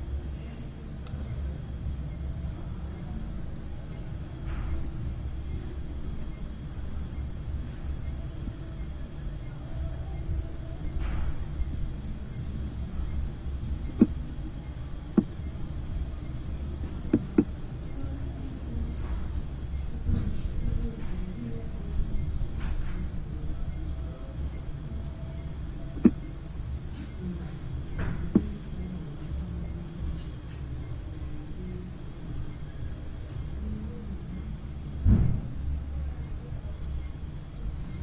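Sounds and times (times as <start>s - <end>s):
cricket chirping: 0.0s - 38.0s
low room rumble: 0.0s - 38.0s.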